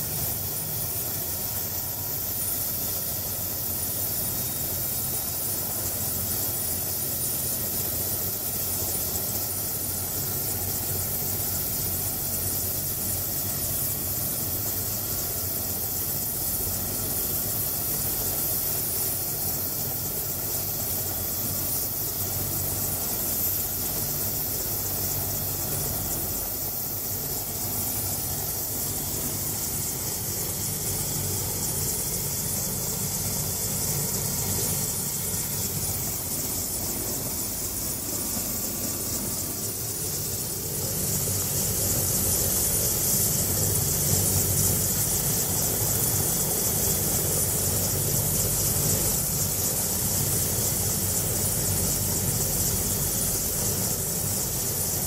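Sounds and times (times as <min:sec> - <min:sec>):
helicopter engine idling: 0:00.0 - 0:55.0.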